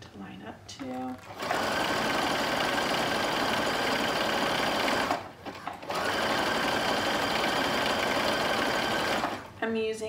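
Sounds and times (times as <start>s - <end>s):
sewing machine stitching: 0.8s - 9.5s.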